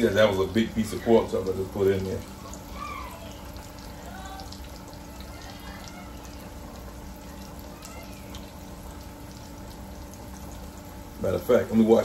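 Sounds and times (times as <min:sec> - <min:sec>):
meat sizzling in deep fryer: 0:00.0 - 0:12.0.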